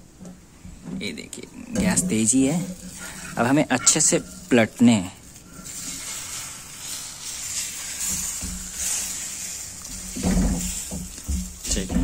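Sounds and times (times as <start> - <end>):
flatbread sizzling on a griddle: 1.3 - 12.0.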